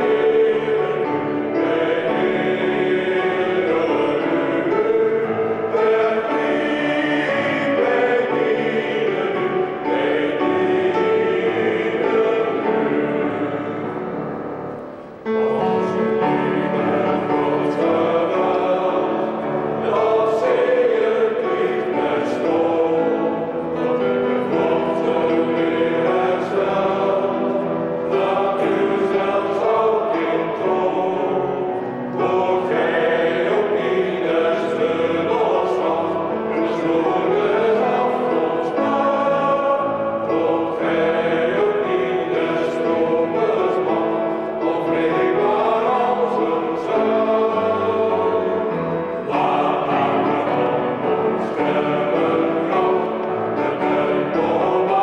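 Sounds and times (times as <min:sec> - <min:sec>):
men's choir singing: 0:00.0 - 0:55.0.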